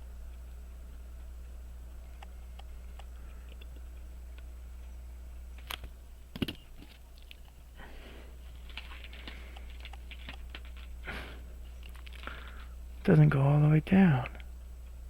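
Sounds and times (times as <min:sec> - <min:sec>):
light scratching with small ticks: 0:00.0 - 0:15.0.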